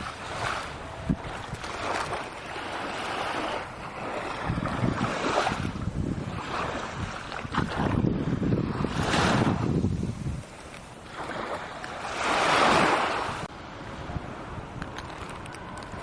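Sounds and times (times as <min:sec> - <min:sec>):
sea waves washing onto beach: 0:00.0 - 0:16.0
wind buffeting microphone: 0:00.0 - 0:16.0.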